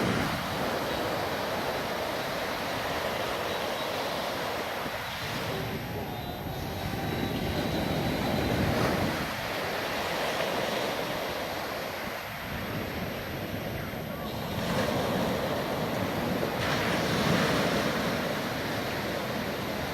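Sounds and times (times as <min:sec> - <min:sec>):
waves washing onto beach: 0:00.0 - 0:19.9.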